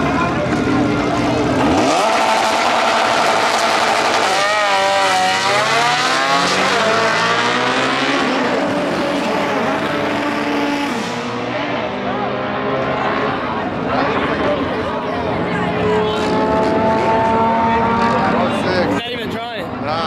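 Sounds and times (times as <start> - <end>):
drag cars accelerating: 0.0 - 20.0.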